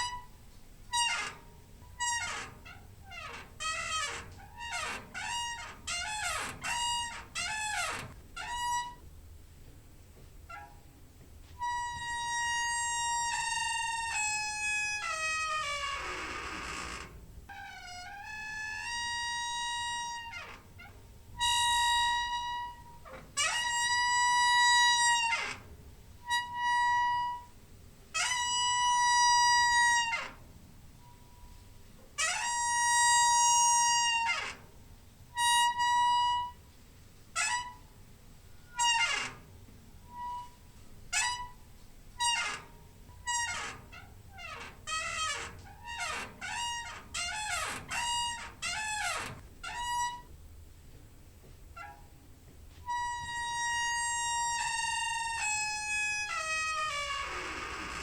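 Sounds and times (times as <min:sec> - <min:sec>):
squeaky door hinge squealing: 0:00.0 - 0:09.0, 0:10.5 - 0:10.9, 0:11.6 - 0:27.6, 0:28.2 - 0:30.4, 0:32.2 - 0:34.7, 0:35.4 - 0:36.6, 0:37.4 - 0:37.9, 0:38.6 - 0:50.3, 0:51.8 - 0:52.1, 0:52.9 - 0:58.0.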